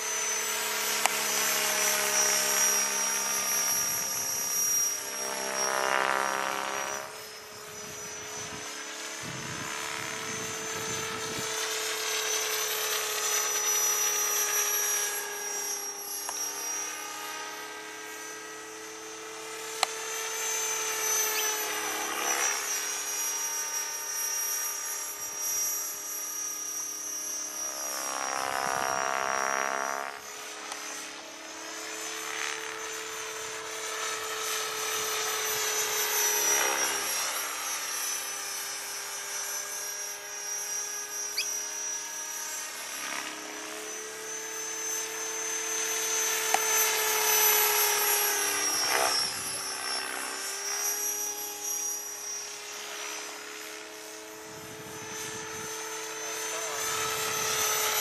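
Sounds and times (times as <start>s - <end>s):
model helicopter rotor whine: 0.0s - 58.0s.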